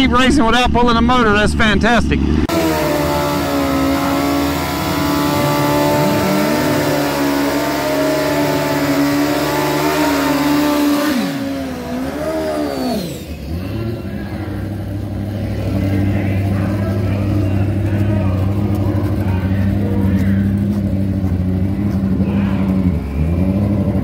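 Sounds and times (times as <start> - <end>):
engine running high pitch: 2.4 - 24.0.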